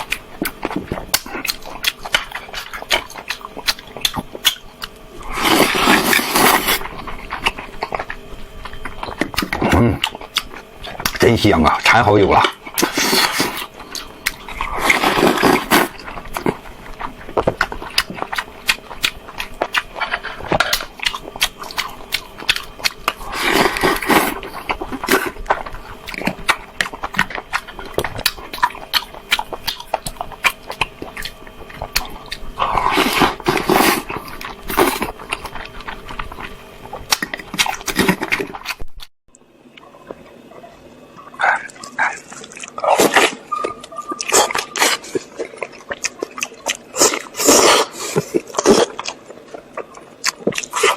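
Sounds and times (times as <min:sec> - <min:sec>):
person chewing food: 0:00.0 - 0:39.1, 0:39.7 - 0:50.9.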